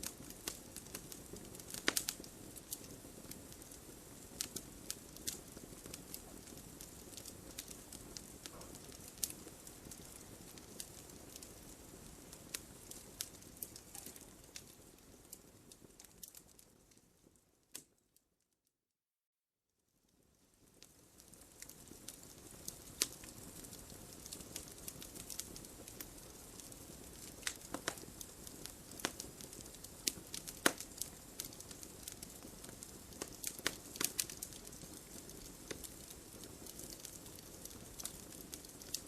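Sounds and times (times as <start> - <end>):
wood fire crackling and popping: 0.0 - 18.0, 20.1 - 39.0
soft rustle of flame: 0.0 - 18.2, 19.8 - 39.0.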